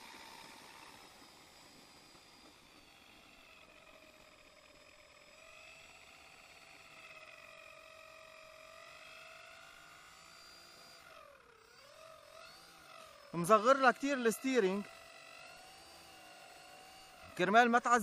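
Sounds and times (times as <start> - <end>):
model aircraft motor whine: 0.0 - 18.0.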